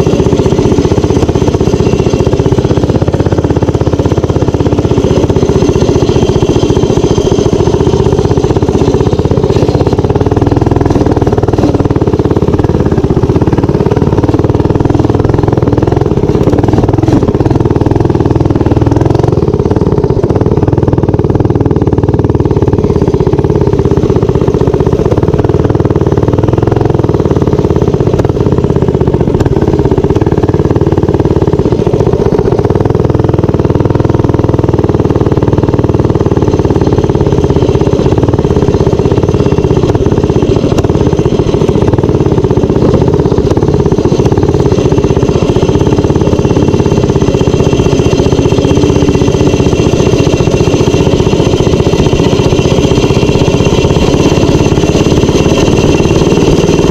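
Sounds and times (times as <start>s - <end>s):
minibike engine running: 0.0s - 56.9s.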